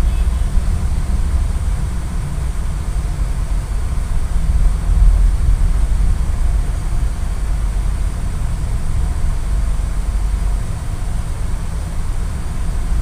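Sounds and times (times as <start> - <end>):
moving vehicle rumble and hiss: 0.0 - 13.0.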